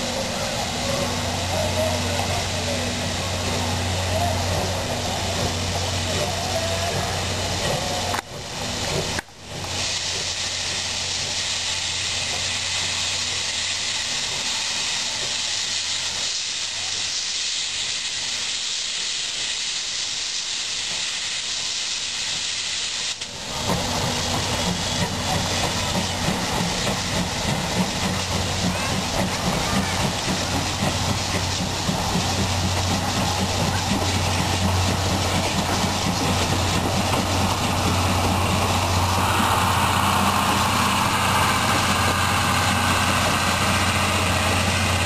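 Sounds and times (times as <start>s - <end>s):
locomotive low rumble: 0.0s - 18.6s, 21.8s - 45.0s
steam locomotive hissing steam: 0.0s - 45.0s.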